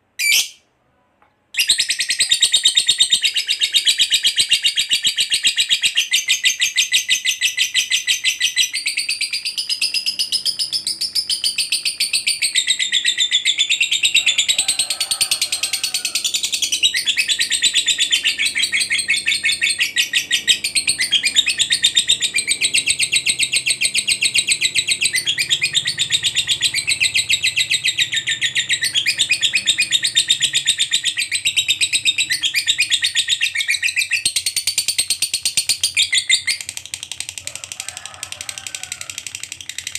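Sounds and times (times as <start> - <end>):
lovebird chattering: 1.6 - 14.5, 15.4 - 39.9.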